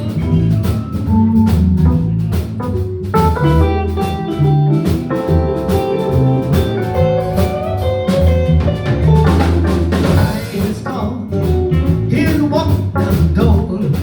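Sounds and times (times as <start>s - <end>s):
live blues band playing: 0.0s - 14.0s
low bass line: 0.0s - 14.0s.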